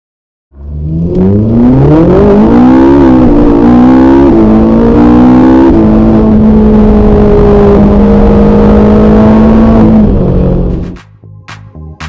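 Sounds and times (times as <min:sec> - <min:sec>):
racing car engine revving: 0:00.6 - 0:11.0.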